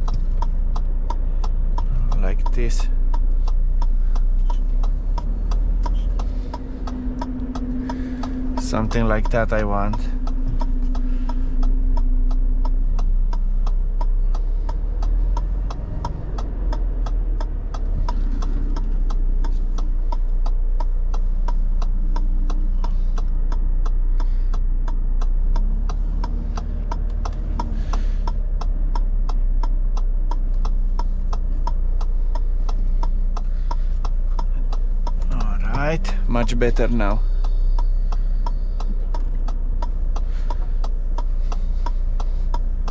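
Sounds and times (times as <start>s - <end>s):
diesel engine running: 0.0s - 42.9s
indicator ticking: 0.0s - 42.9s.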